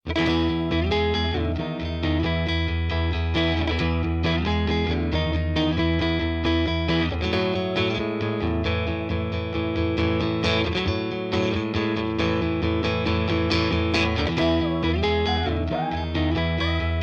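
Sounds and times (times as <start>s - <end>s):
electric guitar music: 0.0s - 17.0s.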